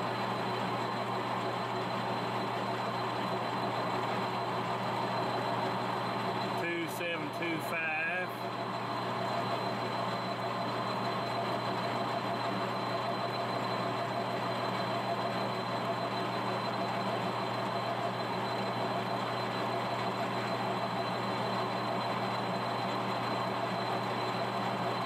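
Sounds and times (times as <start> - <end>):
faint high whine: 0.0 - 25.0
lathe mechanical hum: 0.0 - 25.0.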